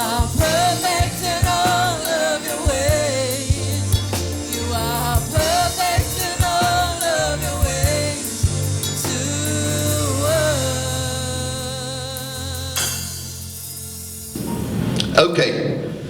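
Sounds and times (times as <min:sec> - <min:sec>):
person singing gospel: 0:00.0 - 0:13.7
band with bass and drums: 0:00.0 - 0:14.4.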